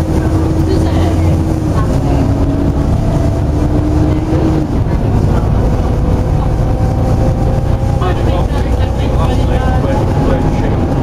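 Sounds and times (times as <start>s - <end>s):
diesel bus engine drone: 0.0s - 11.0s.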